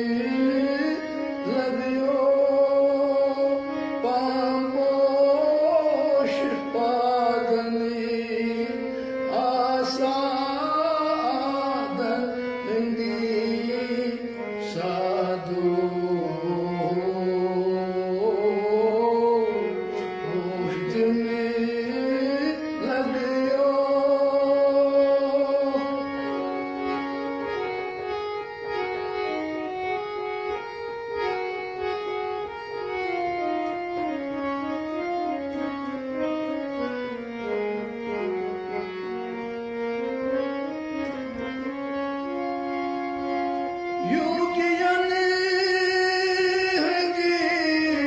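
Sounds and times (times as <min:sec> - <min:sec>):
devotional melody of held notes: 0:00.0 - 0:48.0.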